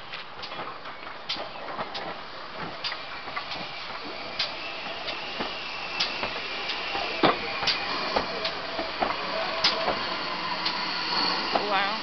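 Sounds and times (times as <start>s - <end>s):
steam locomotive rolling past: 0.0s - 12.0s.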